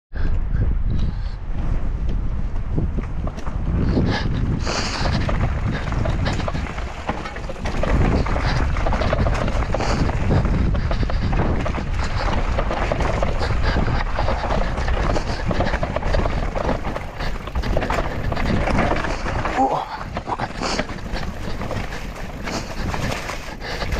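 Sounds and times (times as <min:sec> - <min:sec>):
person breathing hard: 0:00.1 - 0:01.6, 0:03.8 - 0:23.9
wind on microphone: 0:00.1 - 0:23.9
bike rattling: 0:00.2 - 0:23.9
bike tyres on rough ground: 0:00.2 - 0:23.9.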